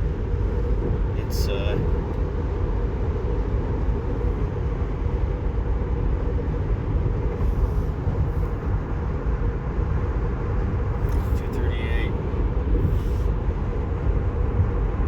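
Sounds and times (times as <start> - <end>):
road and tyre rumble in car cabin: 0.0 - 15.0.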